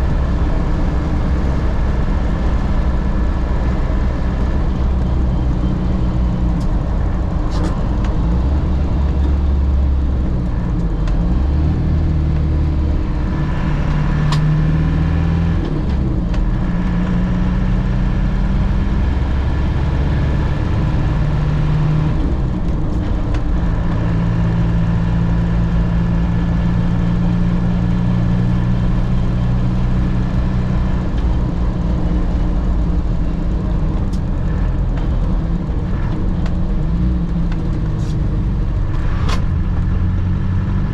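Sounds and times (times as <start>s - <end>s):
car engine shifting gears: 0.0s - 40.9s
road noise: 0.0s - 40.9s.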